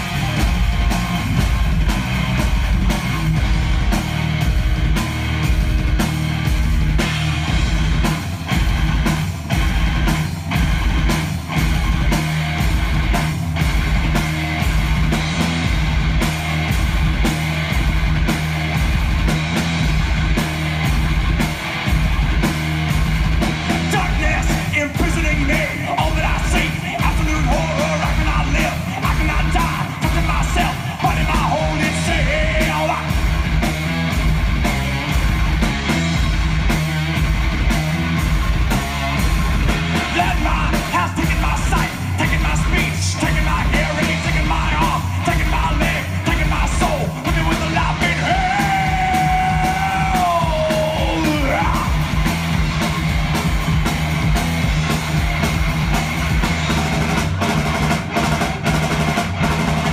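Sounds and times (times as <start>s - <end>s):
bending lead guitar line: 0.0s - 59.9s
distorted electric guitars: 0.0s - 59.9s.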